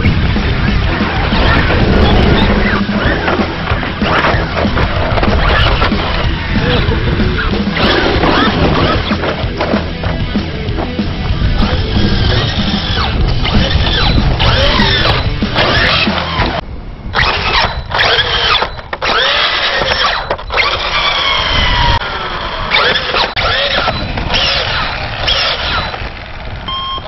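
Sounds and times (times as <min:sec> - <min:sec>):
electric motor revving whine: 0:00.0 - 0:27.0.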